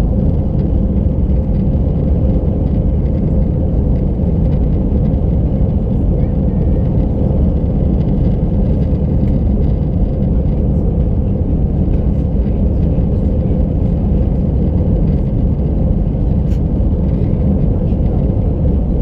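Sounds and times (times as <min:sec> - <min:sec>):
aircraft cabin rumble: 0:00.0 - 0:19.0.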